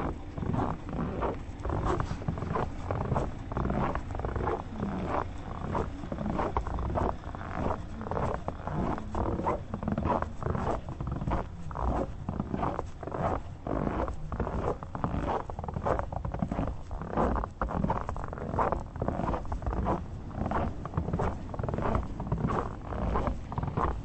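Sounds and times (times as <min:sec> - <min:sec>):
footsteps crunching in snow: 0:00.0 - 0:24.0.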